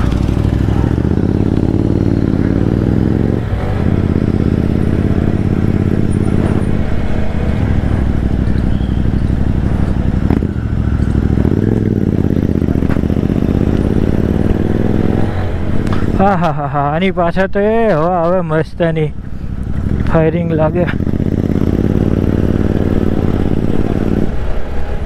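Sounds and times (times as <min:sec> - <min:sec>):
motorcycle engine accelerating: 0:00.0 - 0:16.4, 0:19.1 - 0:25.0.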